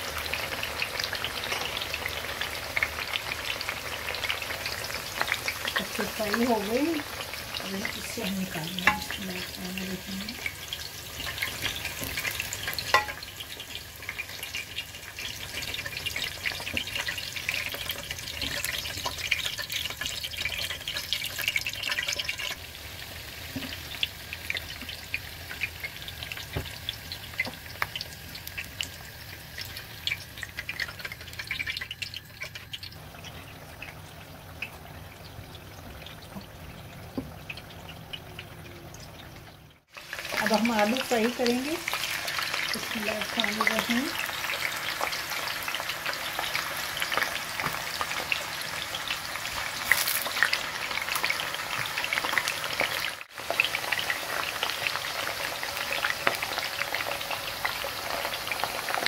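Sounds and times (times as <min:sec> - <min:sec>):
oil sizzling and crackling: 0:00.0 - 0:59.0.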